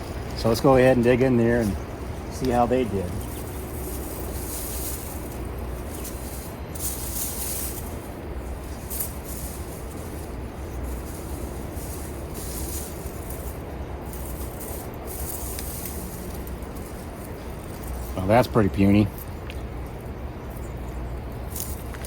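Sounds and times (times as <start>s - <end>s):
scraping and rustling of soil: 0.0s - 22.0s.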